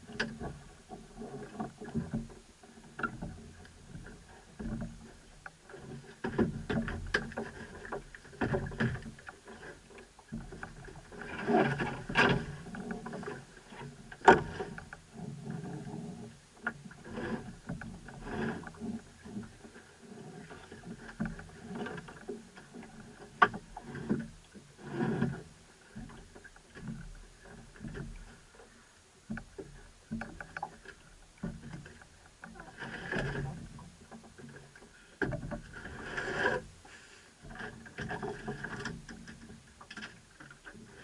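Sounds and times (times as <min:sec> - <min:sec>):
knocks and rattles on boat: 0:00.0 - 0:36.8, 0:37.4 - 0:41.0.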